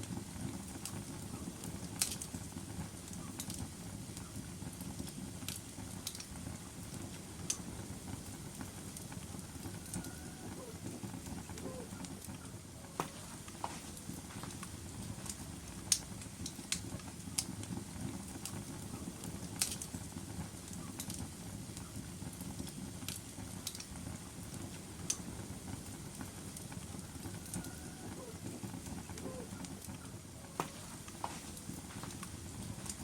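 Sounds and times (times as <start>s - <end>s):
fire crackling and popping: 0.0s - 33.0s
flames rumbling: 0.0s - 33.0s.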